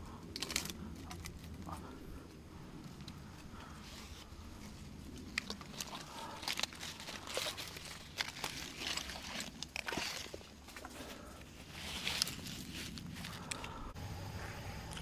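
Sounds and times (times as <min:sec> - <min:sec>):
crackling and rustling: 0:00.0 - 0:14.0.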